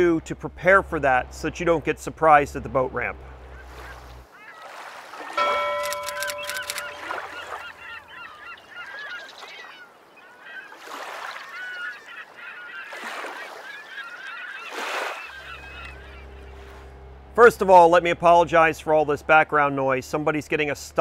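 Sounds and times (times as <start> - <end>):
water birds honking and calling: 0.0 - 21.0.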